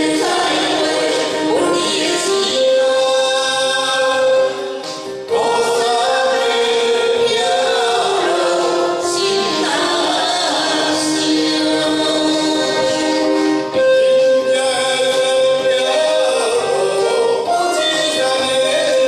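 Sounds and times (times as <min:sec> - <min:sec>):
karaoke backing track: 0:00.0 - 0:19.0
man and woman singing duet: 0:00.0 - 0:19.0.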